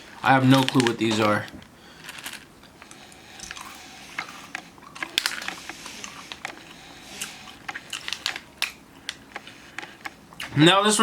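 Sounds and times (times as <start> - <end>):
candies handled and chewed: 0.0 - 10.6.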